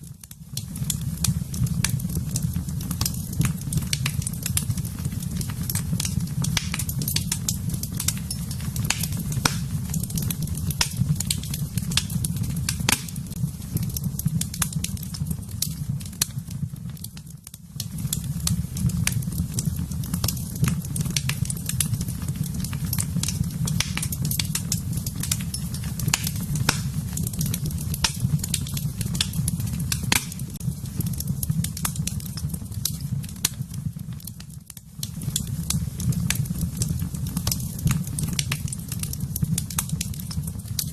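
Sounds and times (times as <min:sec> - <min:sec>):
fire crackling and popping: 0:00.0 - 0:40.9
low rumble of flame: 0:00.0 - 0:40.9.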